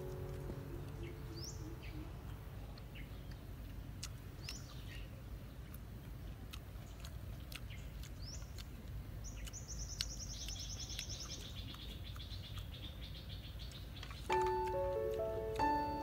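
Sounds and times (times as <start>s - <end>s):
birds singing: 0.0s - 5.8s, 6.8s - 16.0s
low outdoor background hum: 0.0s - 16.0s.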